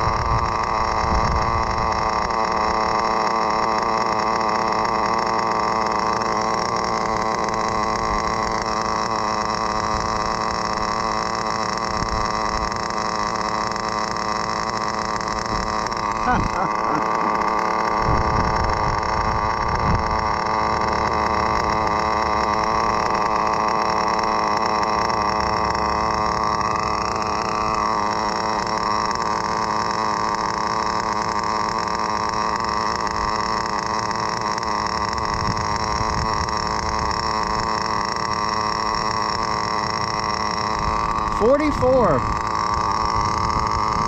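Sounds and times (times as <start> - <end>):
model car engine droning: 0.0 - 44.0.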